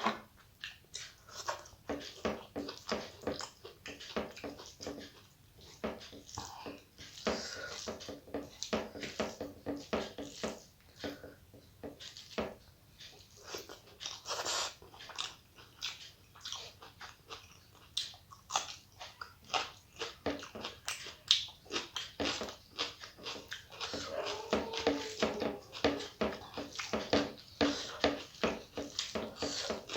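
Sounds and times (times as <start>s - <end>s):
person chewing food: 0.0s - 29.9s.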